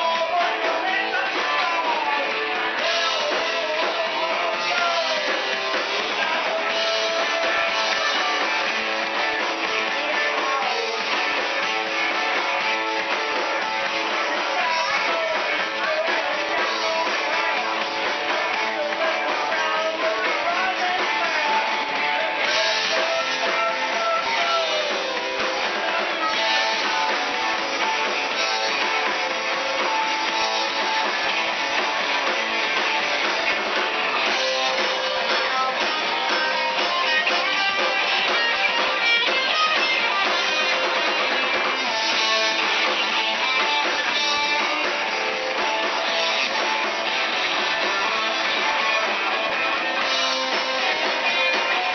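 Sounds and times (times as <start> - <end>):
drums: 0.0 - 51.9
electric guitar: 0.0 - 51.9.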